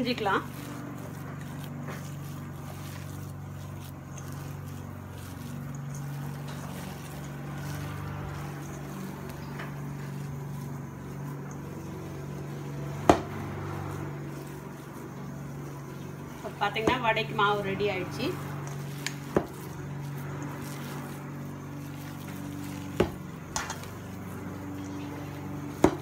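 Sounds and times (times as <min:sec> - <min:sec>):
hands kneading batter in bowl: 0:00.0 - 0:26.0
low machine hum: 0:00.0 - 0:26.0.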